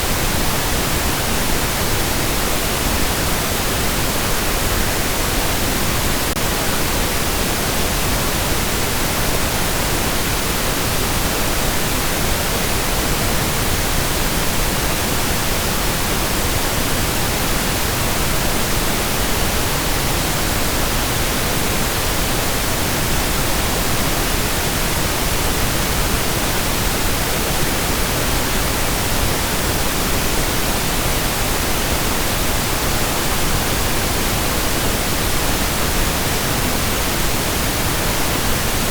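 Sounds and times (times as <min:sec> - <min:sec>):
steady pink noise: 0:00.0 - 0:38.9.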